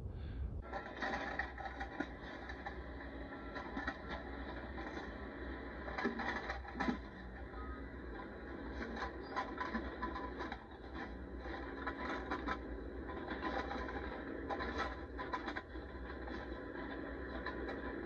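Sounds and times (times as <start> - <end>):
steady low hum: 0.0 - 18.0
scraping and knocking strokes: 0.6 - 18.0.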